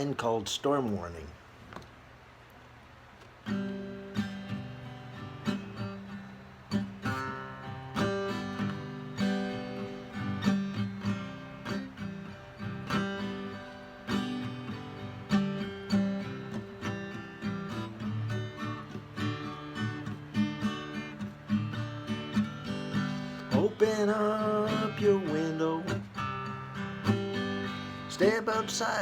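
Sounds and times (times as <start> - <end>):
acoustic guitar strumming chords: 3.3 - 29.0.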